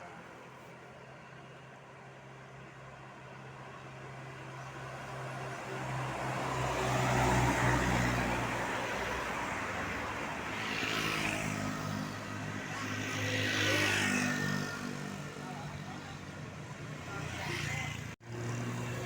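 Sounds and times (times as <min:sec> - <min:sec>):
vehicles passing: 0:03.4 - 0:19.0.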